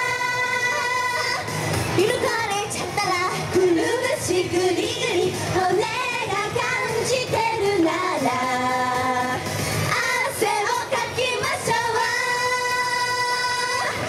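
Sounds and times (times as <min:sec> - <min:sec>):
women singing pop song: 0:00.0 - 0:14.0.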